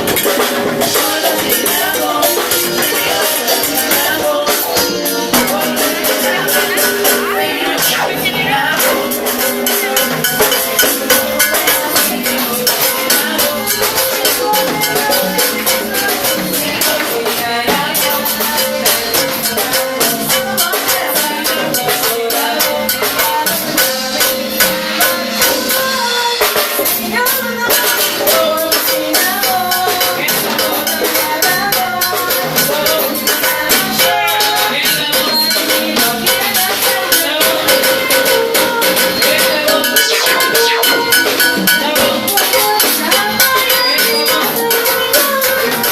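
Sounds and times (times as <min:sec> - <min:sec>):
live band playing: 0:00.0 - 0:45.9
shaker percussion beat: 0:00.0 - 0:45.9.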